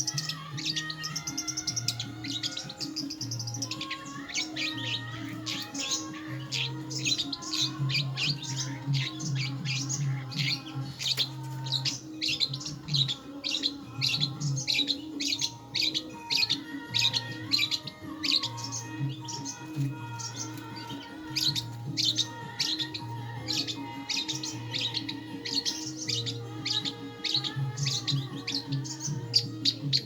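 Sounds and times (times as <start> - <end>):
bird chirping rapidly: 0.0 - 30.0.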